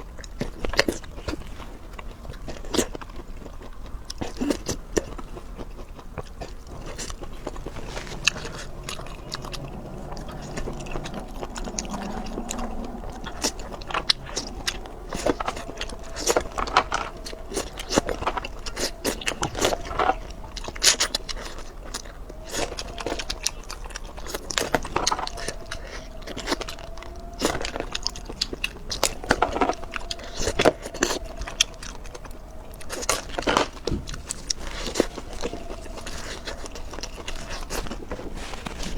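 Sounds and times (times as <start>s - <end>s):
person chewing crunchy food: 0.5s - 38.7s.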